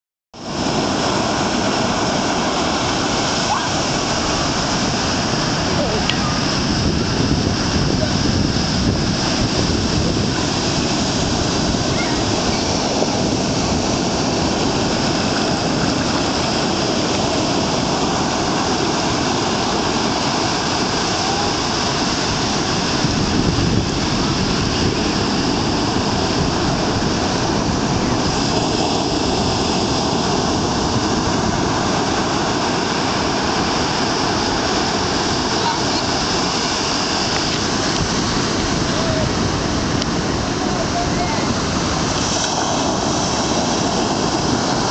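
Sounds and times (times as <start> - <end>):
surf breaking on sandy beach: 0.4 - 44.9.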